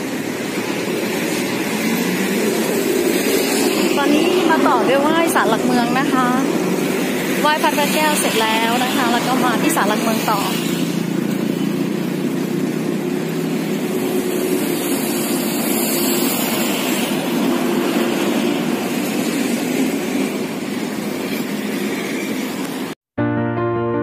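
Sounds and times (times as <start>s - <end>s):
city road traffic: 0.0s - 23.0s.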